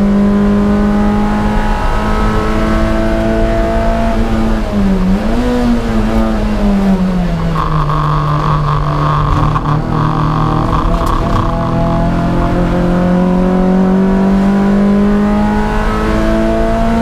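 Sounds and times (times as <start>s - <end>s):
race car engine: 0.0s - 17.0s.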